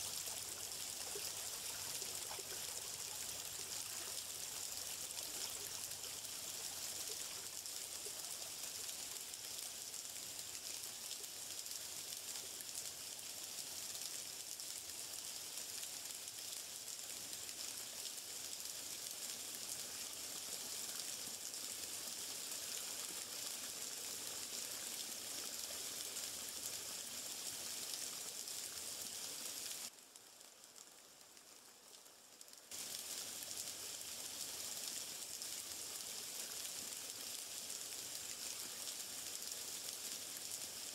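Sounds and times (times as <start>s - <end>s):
running water hiss: 0.0s - 40.9s.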